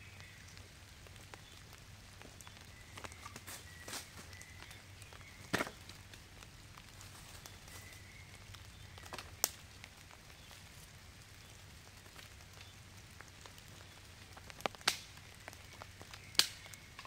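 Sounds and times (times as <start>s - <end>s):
faint steady hiss: 0.0s - 17.0s
dry wood cracking: 0.2s - 17.0s.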